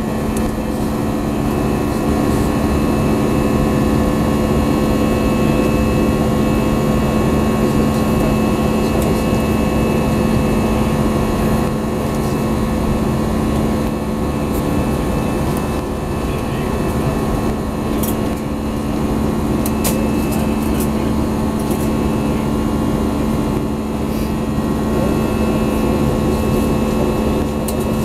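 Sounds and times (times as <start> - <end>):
airplane cabin engine drone: 0.0 - 28.0.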